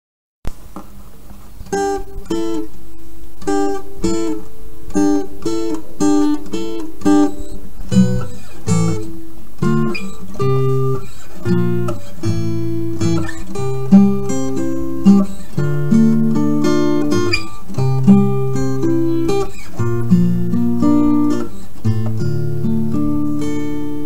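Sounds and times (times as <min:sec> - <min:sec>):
acoustic guitar strumming: 0:00.5 - 0:24.0.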